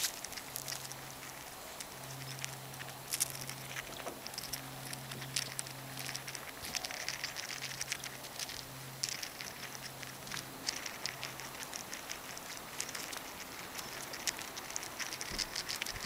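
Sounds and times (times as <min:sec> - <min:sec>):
seed shells clicking and crackling: 0:00.0 - 0:16.0.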